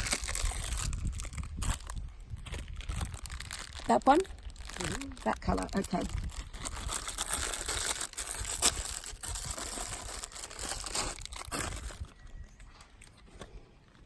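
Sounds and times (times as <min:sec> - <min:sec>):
bandage crackling and tearing: 0:00.0 - 0:13.3.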